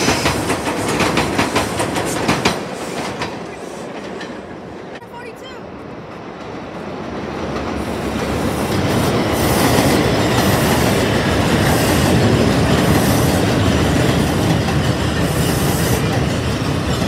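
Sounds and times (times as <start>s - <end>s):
subway train wheels clattering: 0.0s - 17.0s.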